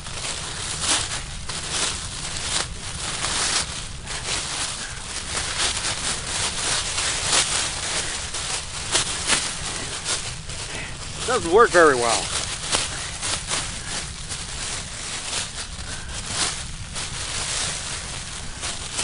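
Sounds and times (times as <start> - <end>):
foil blanket crinkling: 0.0 - 19.0.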